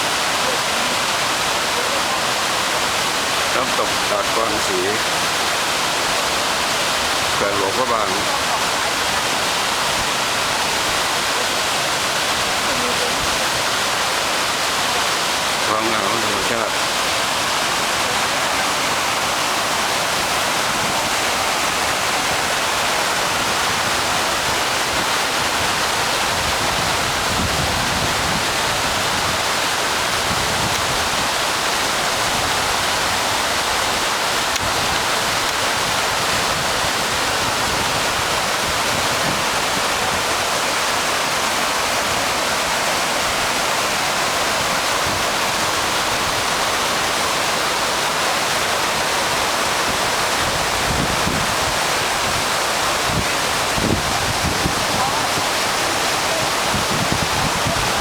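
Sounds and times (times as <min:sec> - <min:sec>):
waterfall rushing and splashing: 0:00.0 - 0:58.0.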